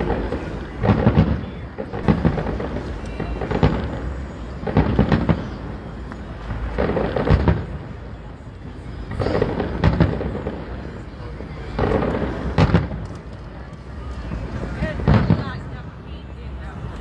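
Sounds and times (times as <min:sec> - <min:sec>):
fireworks booming: 0:00.0 - 0:15.9.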